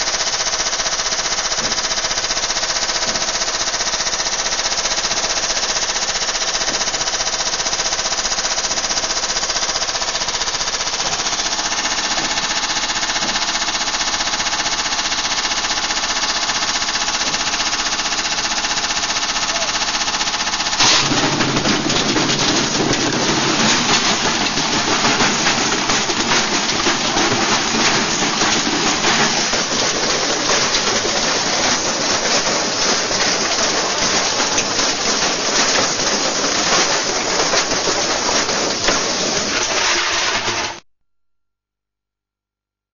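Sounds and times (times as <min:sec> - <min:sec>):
rapid rattling clatter: 0:00.0 - 0:40.8
washing machine pounding and whining: 0:00.0 - 0:40.8.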